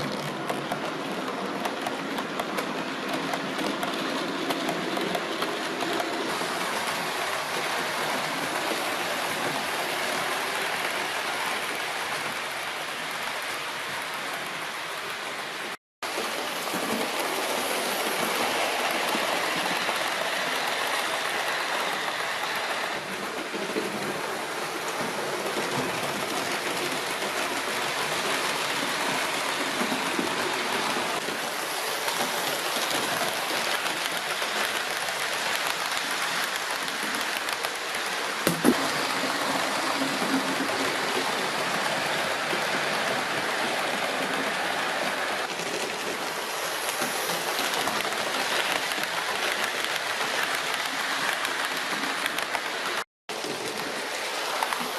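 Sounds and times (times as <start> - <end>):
model trains running on track: 0.0 - 54.9.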